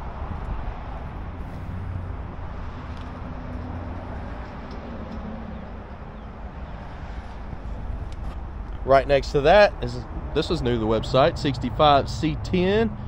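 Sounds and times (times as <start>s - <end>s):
distant road traffic rumble: 0.0s - 13.0s
faint engine hum: 0.0s - 13.0s.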